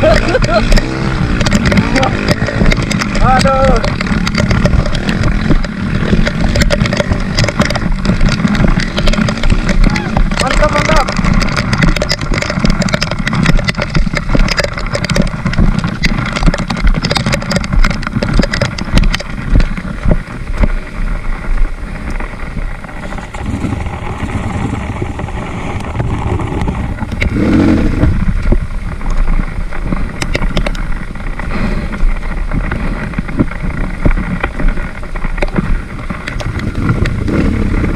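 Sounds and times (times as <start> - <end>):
motorcycle engine running: 0.0 - 37.9
sharp knocks and rattles: 0.0 - 37.9.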